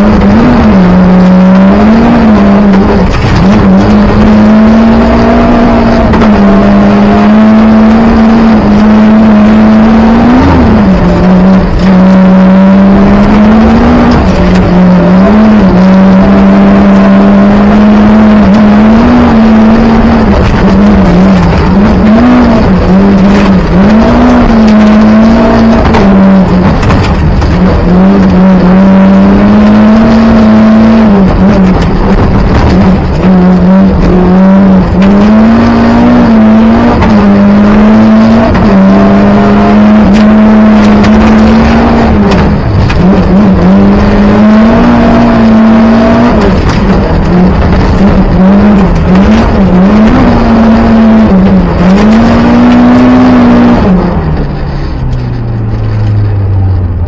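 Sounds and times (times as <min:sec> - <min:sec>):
rally car engine revving: 0:00.0 - 0:57.0
gravel rattling against car underside: 0:02.2 - 0:04.5, 0:08.5 - 0:15.8, 0:18.4 - 0:57.0.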